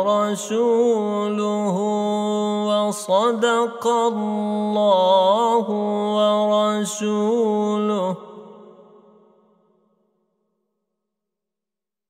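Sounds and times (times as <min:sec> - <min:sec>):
echo of man's reciting voice: 0:00.0 - 0:09.8.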